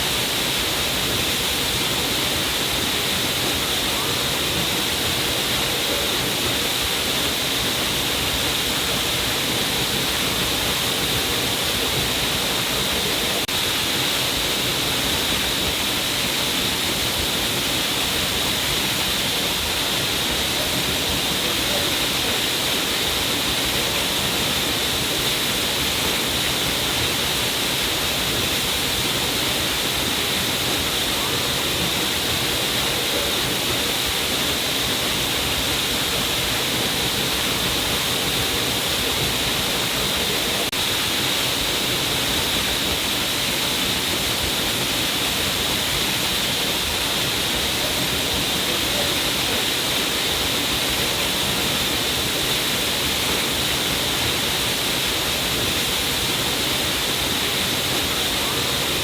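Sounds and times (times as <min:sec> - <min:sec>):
water falling and splashing: 0:00.0 - 0:59.0.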